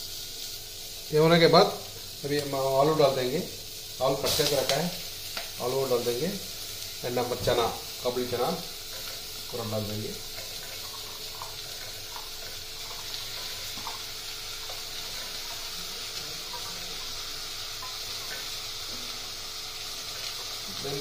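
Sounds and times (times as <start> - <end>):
sizzling in a pot: 0.0 - 21.0.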